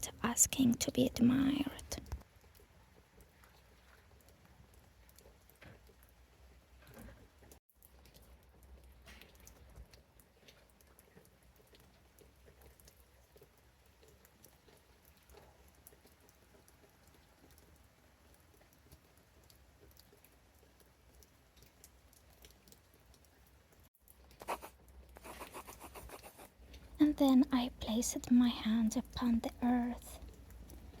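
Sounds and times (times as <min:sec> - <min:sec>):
raindrops pattering: 0:00.0 - 0:31.0.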